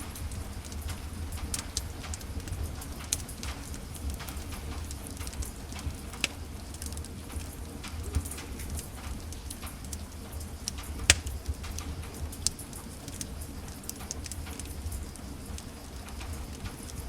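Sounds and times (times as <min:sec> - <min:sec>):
fire snaps and pops: 0:00.0 - 0:17.0
low rumble of flames: 0:00.0 - 0:17.0
wood fire crackling: 0:00.0 - 0:17.0.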